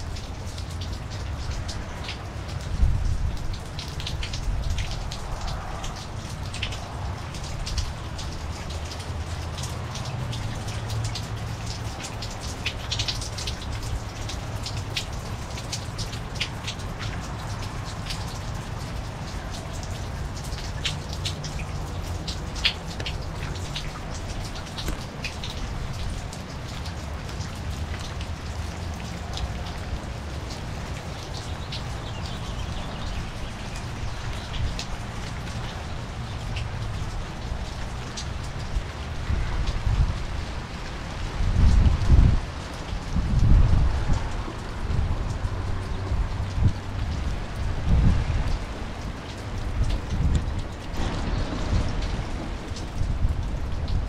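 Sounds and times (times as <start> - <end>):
rain drops ticking on concrete: 0.0 - 54.0
steady rain falling: 0.0 - 54.0.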